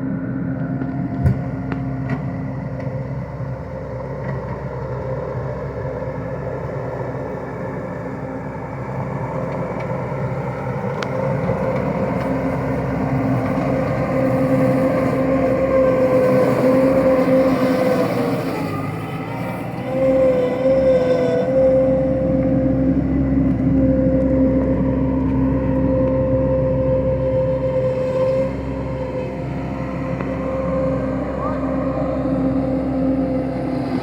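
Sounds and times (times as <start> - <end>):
skid steer engine running: 0.0 - 34.0.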